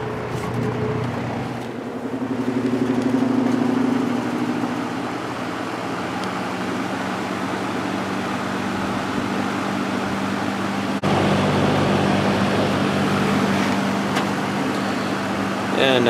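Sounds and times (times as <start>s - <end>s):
box fan motor humming: 0.0s - 16.0s.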